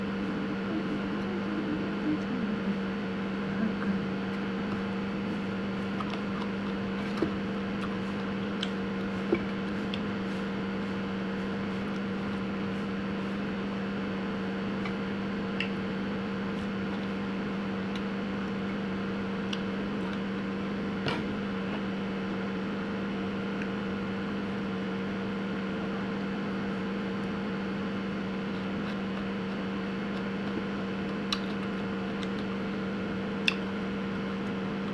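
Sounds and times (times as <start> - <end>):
electrical motor hum: 0.0 - 34.9.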